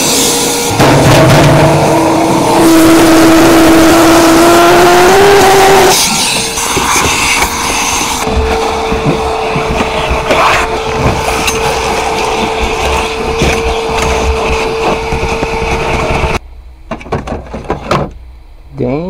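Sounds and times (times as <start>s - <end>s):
vacuum cleaner running: 0.0s - 16.4s.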